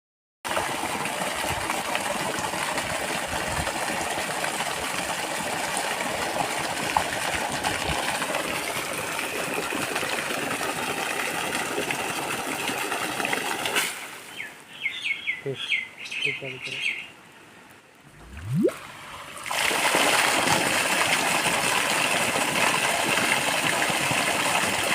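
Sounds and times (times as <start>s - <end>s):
mud pump gushing water: 0.5s - 14.1s, 18.1s - 24.9s.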